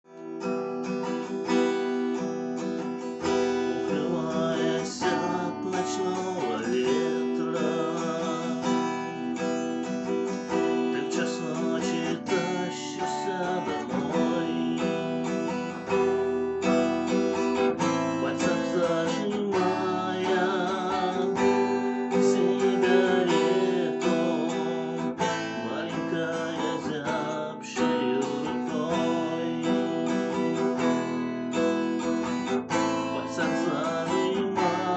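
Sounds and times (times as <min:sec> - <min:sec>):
strummed acoustic guitar: 0:00.0 - 0:34.9.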